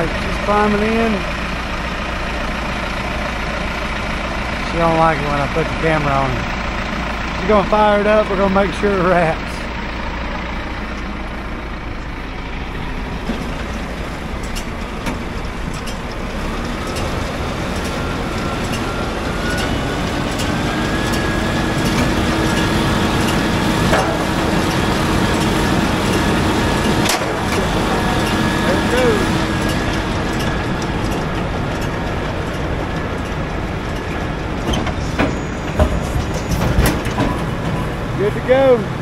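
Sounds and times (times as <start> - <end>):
baler whine: 0.0 - 39.0
tractor engine running: 0.0 - 39.0.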